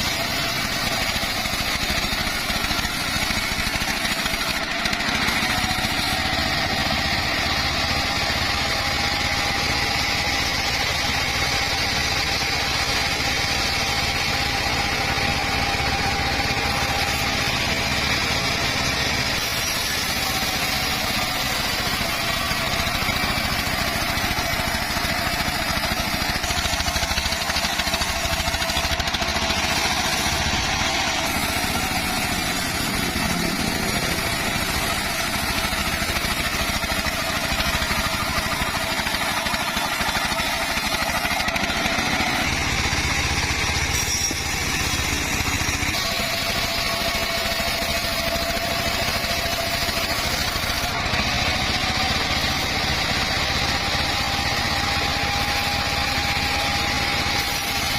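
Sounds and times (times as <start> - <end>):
circular saw running: 0.0 - 57.9.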